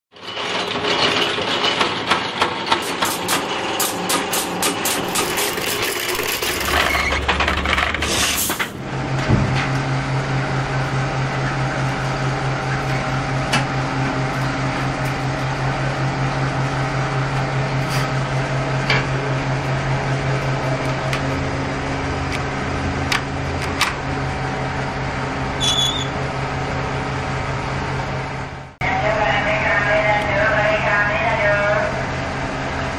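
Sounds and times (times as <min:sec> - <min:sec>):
low machine hum: 0:02.8 - 0:32.9.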